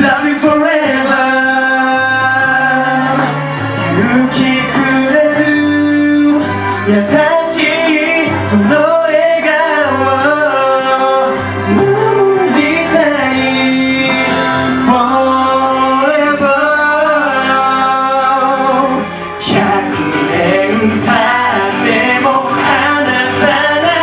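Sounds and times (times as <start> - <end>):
pop song with male vocals: 0.0 - 24.0.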